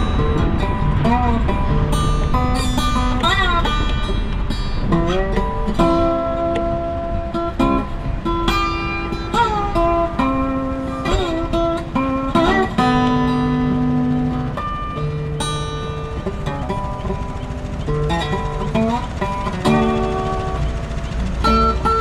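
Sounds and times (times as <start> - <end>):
low steady accompaniment: 0.0 - 22.0
melody of bending notes: 0.0 - 22.0.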